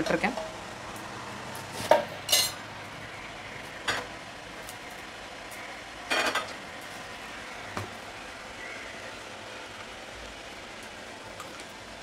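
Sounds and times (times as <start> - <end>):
oil crackling: 0.0 - 12.0
oil hissing in a pan: 0.0 - 12.0.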